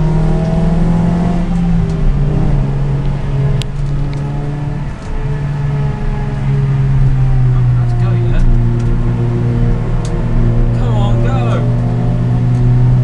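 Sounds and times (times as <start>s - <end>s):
car engine running hard: 0.0s - 13.0s.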